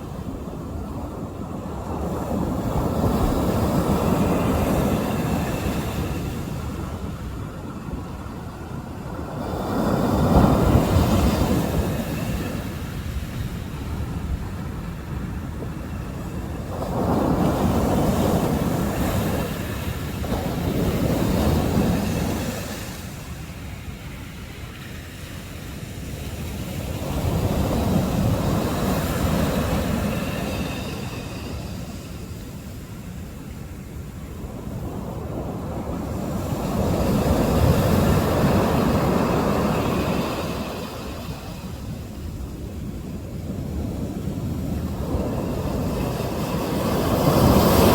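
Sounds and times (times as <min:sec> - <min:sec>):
sea waves surging: 0:00.0 - 0:47.9
wind buffeting microphone: 0:00.0 - 0:47.9.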